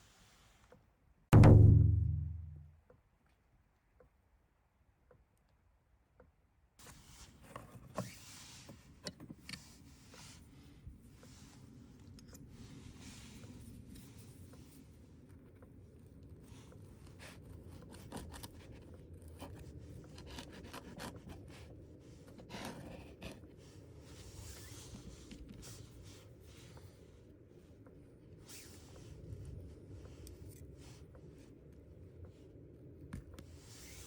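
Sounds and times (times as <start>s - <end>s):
low steady hum: 0.1s - 34.0s.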